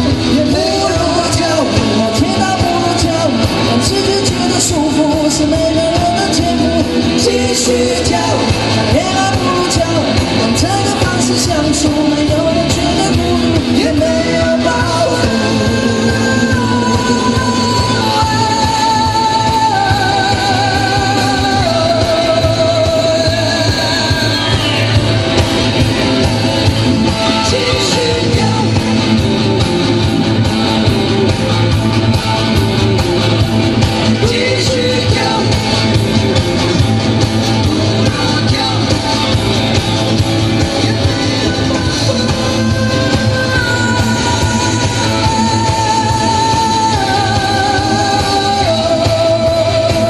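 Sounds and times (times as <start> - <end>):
person singing: 0.0 - 32.4, 33.0 - 50.0
electric guitar: 0.0 - 50.0
live rock band: 0.0 - 50.0.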